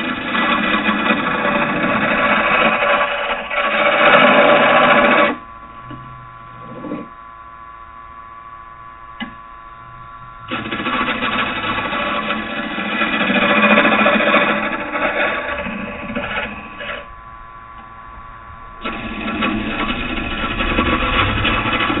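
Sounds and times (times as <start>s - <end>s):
lathe tool cutting wood: 0.0s - 5.5s, 9.9s - 22.0s
lathe motor hum: 0.0s - 22.0s.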